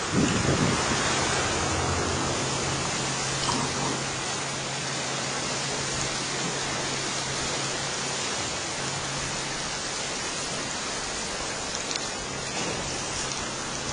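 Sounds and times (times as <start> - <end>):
sea surf and wind: 0.0 - 13.9.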